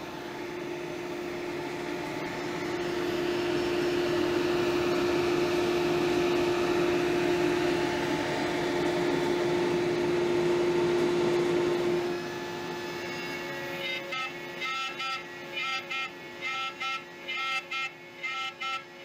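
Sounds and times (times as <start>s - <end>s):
power tool motor whining: 0.0s - 19.0s.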